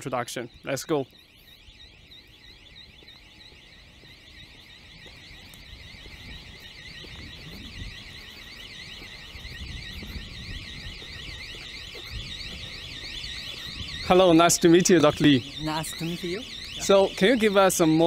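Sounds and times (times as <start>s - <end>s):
electronic warbling alarm: 0.0s - 18.0s.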